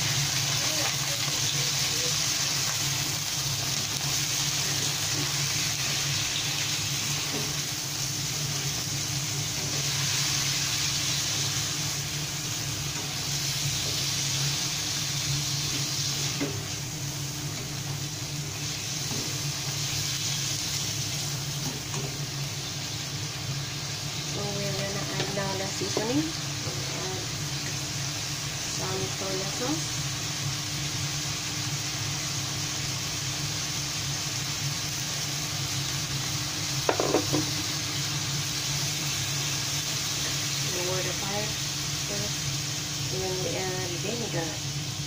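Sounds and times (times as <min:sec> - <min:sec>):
squid sizzling in a wok: 0:00.0 - 0:45.0.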